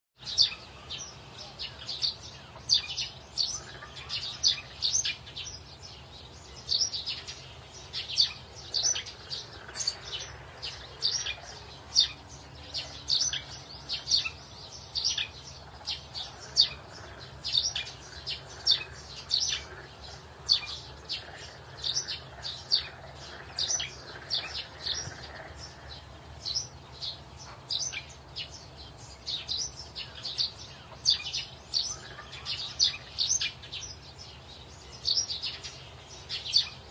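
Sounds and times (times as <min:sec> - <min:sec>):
birds chirping: 0:00.2 - 0:36.9.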